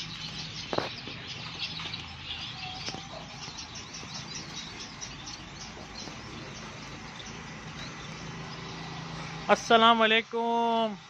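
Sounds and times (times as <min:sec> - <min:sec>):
finches chirping and twittering: 0:00.0 - 0:11.0.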